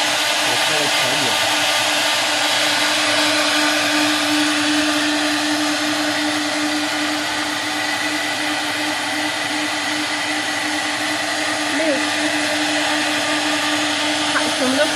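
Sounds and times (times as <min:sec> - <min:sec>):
spindle motor whine: 0:00.0 - 0:14.9.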